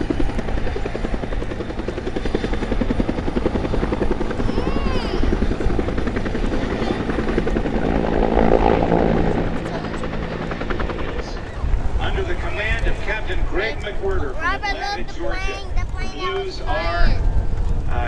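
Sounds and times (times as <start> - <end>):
helicopter rotor beat: 0.0 - 18.0.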